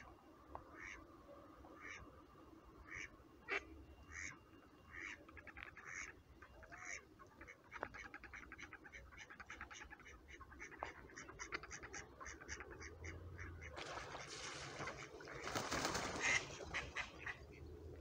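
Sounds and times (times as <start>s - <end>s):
ducks quacking: 0.8s - 1.0s, 2.9s - 4.3s, 4.9s - 17.7s.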